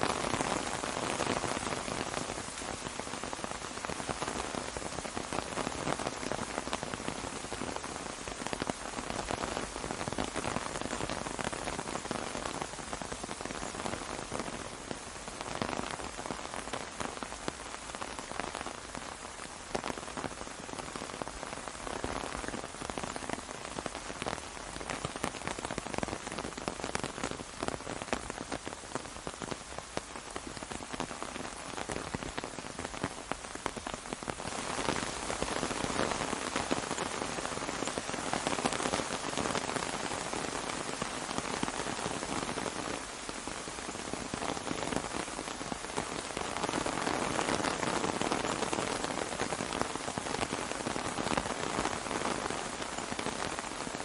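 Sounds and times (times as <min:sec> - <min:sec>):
rain falling on an umbrella: 0:00.0 - 0:54.0.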